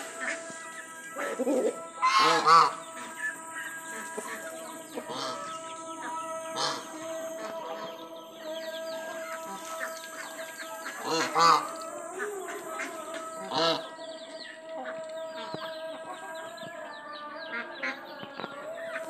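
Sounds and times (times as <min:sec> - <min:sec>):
chickens clucking: 0:00.0 - 0:19.0
geese honking: 0:00.0 - 0:19.0.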